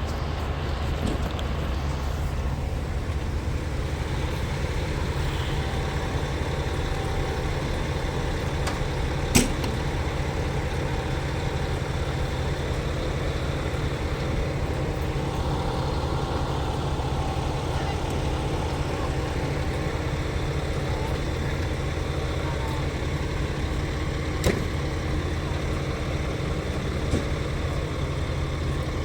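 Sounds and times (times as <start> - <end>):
large vehicle engine idling: 0.0 - 29.0.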